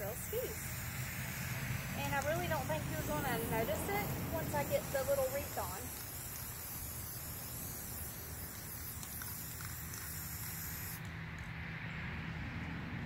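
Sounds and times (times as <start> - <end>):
aerosol spray can hissing: 0.0 - 11.1.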